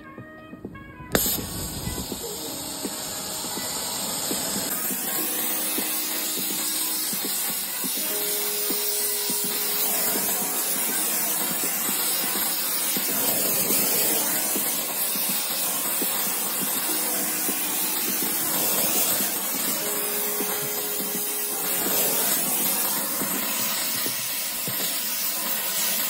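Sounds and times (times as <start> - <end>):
torch flame hissing: 1.2 - 26.0.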